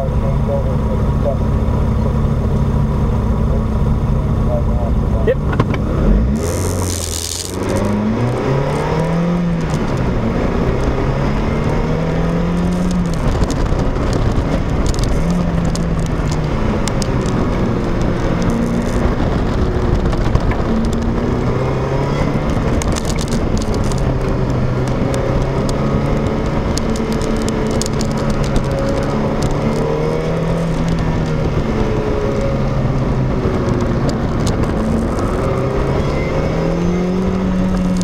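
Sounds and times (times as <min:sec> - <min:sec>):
car engine revving: 0:00.0 - 0:38.0
road and wind noise: 0:00.0 - 0:38.0.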